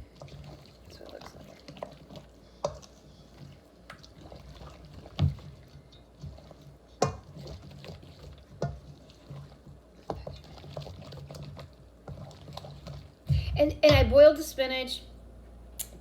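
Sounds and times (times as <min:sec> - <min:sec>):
spoon stirring thick wet dip: 0:00.0 - 0:14.0.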